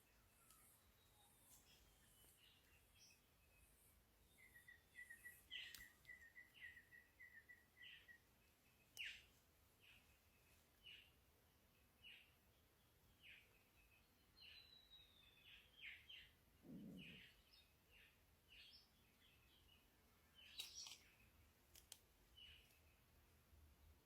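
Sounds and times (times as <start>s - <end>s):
faint bird chirps: 0.0s - 21.5s, 22.3s - 23.1s.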